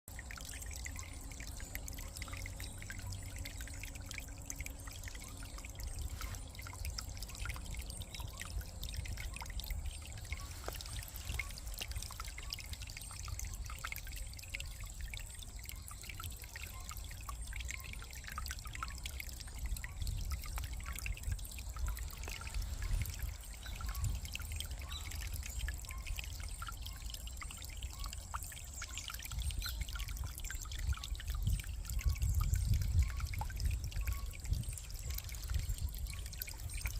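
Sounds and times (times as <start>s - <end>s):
brook trickling over stones: 0.0s - 36.9s.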